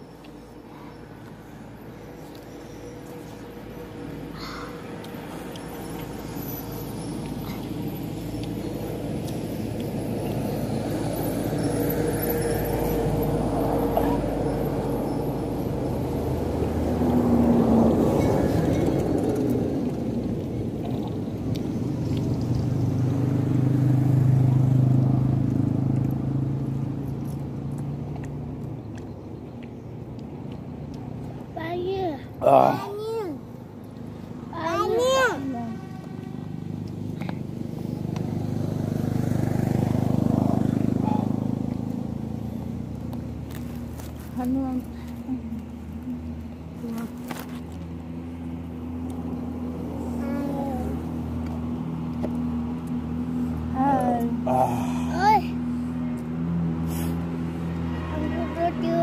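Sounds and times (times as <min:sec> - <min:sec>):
vehicle passing on road: 0:00.0 - 0:59.0.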